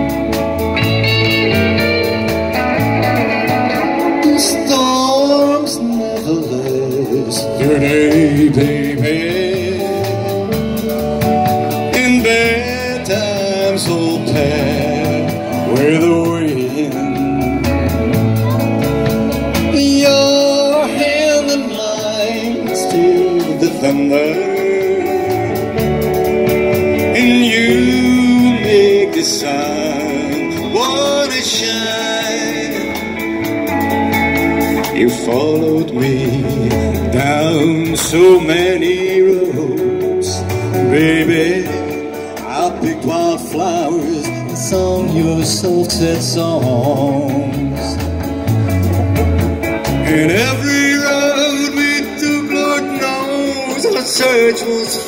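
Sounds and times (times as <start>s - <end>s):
live country band playing: 0.0s - 55.0s.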